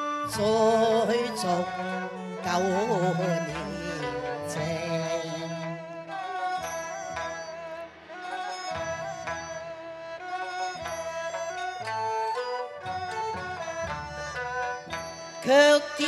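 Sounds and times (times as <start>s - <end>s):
opera ensemble music: 0.0s - 16.0s.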